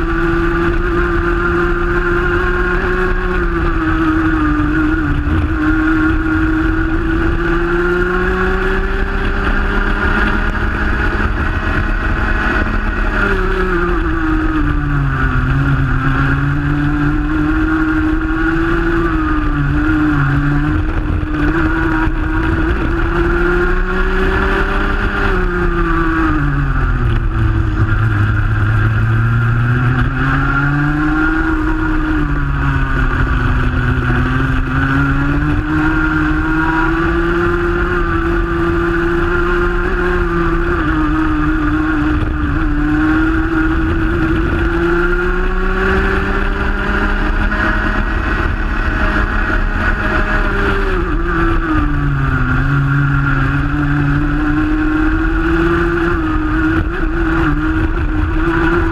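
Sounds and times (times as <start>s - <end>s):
engines of karts ahead: 0.0s - 58.9s
kart engine at racing speed: 0.0s - 58.9s.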